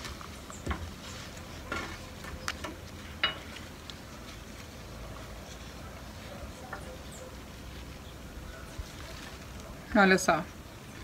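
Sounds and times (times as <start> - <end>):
pot and soil rustling: 0.0 - 11.0.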